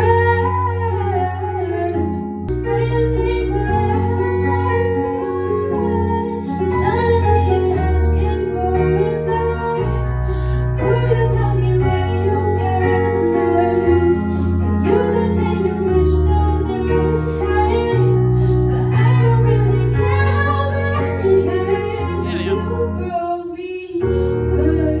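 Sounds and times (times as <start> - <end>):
keyboard chords: 0.0 - 25.0
woman singing into microphone: 0.0 - 25.0.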